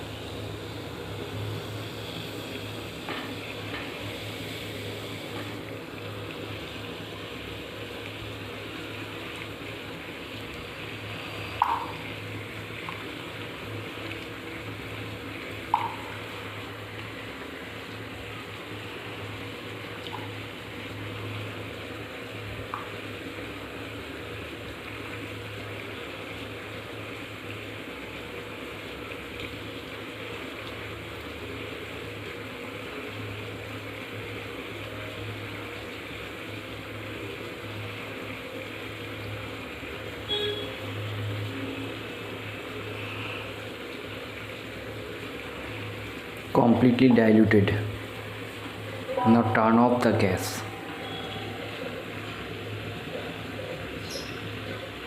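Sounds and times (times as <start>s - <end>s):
liquid simmering: 0.0s - 55.0s
pan bubbling on gas stove: 0.0s - 55.0s.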